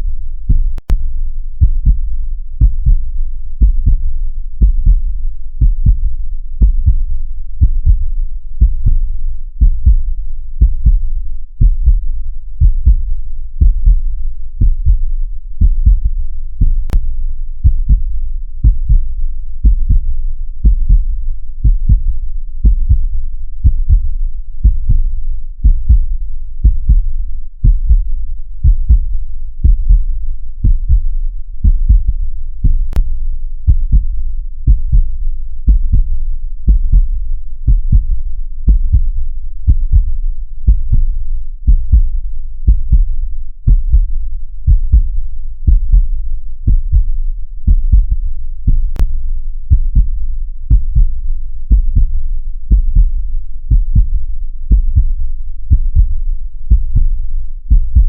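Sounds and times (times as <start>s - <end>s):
heartbeat thumps: 0.5s - 1.0s, 1.6s - 5.0s, 5.6s - 33.1s, 33.7s - 41.1s, 41.7s - 49.1s, 49.7s - 58.0s.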